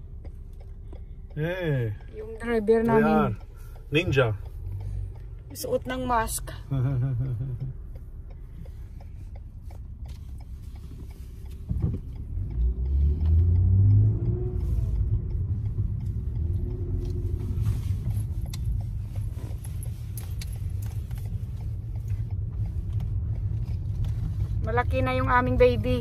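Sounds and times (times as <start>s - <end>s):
engine and road rumble in car: 0.0s - 26.0s.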